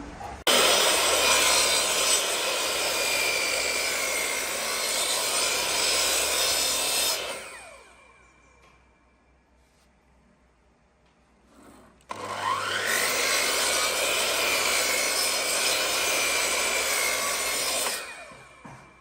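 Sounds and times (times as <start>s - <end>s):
power tool on wood whining: 0.5s - 8.7s, 11.7s - 19.0s.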